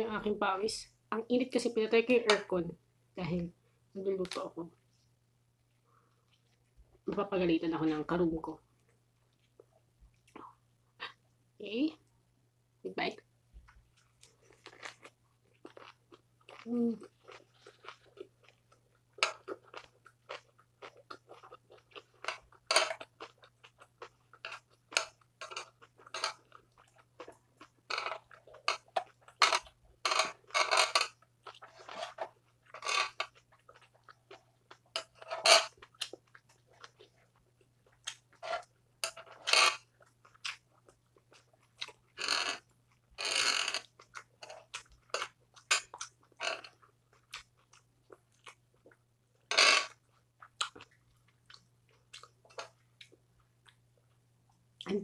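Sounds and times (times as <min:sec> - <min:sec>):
low steady hum: 0:00.0 - 0:55.0
person chewing food: 0:05.6 - 0:07.0, 0:08.7 - 0:11.3, 0:13.6 - 0:54.9.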